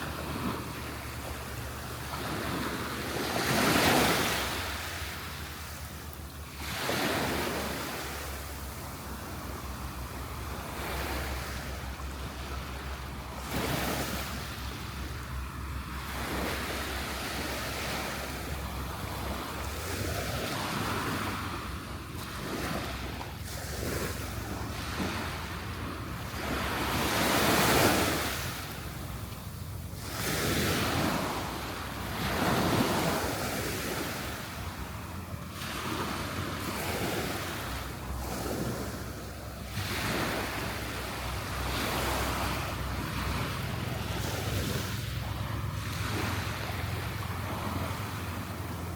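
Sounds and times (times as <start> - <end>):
waves breaking on beach: 0.0 - 48.9
wind rumbling on microphone: 0.0 - 48.9.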